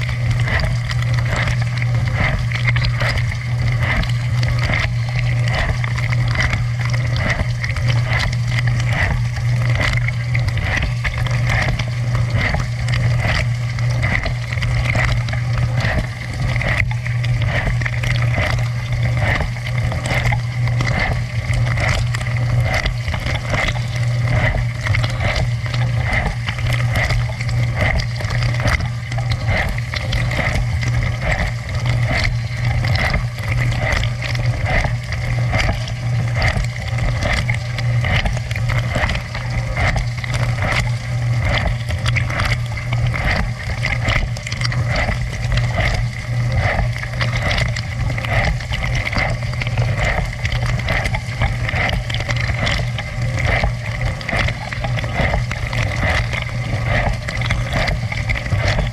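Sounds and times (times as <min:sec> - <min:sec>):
dishwasher pump motor hum: 0:00.0 - 0:58.9
water spraying and splashing: 0:00.0 - 0:58.9.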